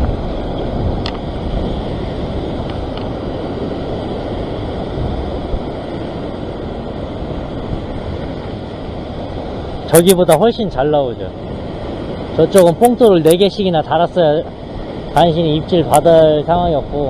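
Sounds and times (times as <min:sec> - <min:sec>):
ocean waves breaking on rocks: 0:00.0 - 0:17.0
wind buffeting microphone: 0:00.0 - 0:17.0.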